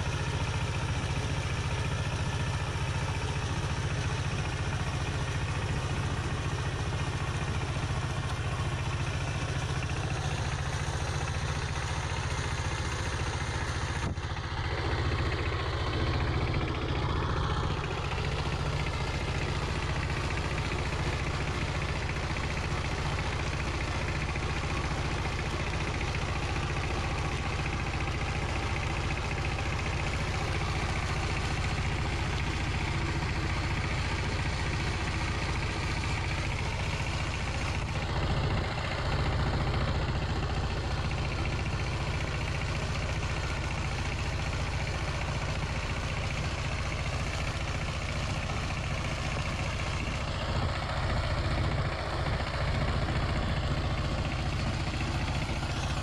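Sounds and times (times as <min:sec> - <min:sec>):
diesel engine running: 0:00.0 - 0:56.0
tiller churning through soil: 0:00.0 - 0:56.0.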